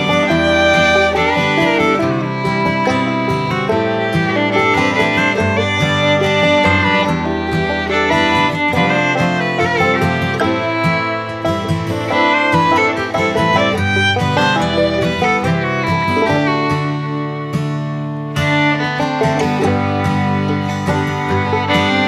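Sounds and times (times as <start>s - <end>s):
bluegrass fiddle and guitar tune: 0.0s - 22.0s.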